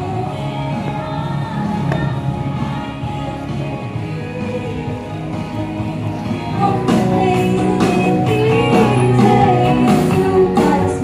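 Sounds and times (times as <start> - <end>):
guitar: 0.0 - 11.0
person singing: 0.0 - 11.0.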